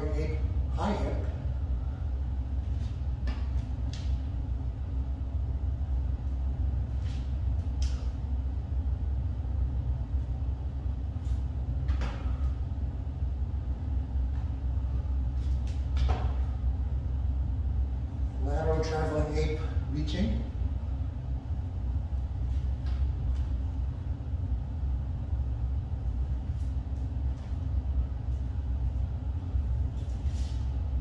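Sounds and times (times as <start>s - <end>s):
low background rumble: 0.0s - 31.0s.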